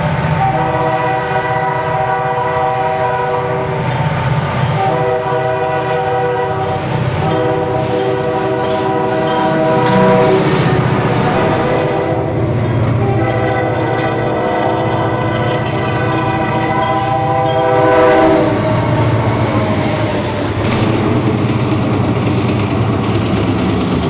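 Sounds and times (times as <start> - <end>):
locomotive air horn blasts: 0.4 - 3.8, 4.7 - 21.0.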